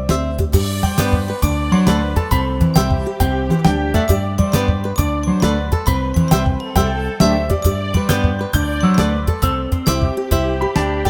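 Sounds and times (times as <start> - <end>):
upbeat children's music: 0.0 - 11.0.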